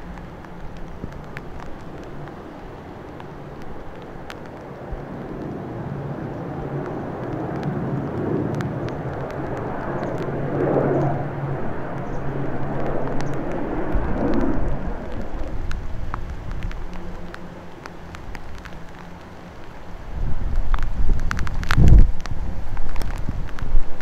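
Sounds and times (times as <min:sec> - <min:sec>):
turboprop plane climbing overhead: 0:00.0 - 0:24.0.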